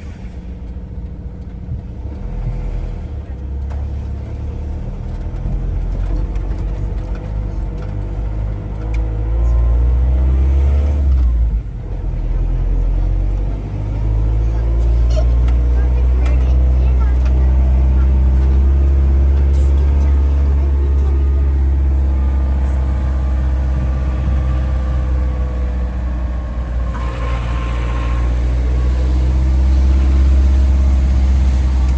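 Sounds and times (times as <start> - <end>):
heavy vehicle engine rumbling: 0.0 - 31.9.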